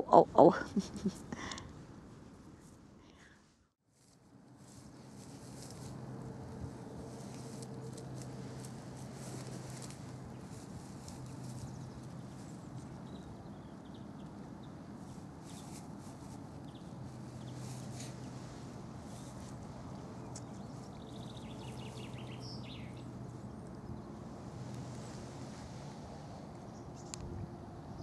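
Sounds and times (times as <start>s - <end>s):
puppy digging in dry grass: 3.9s - 27.1s.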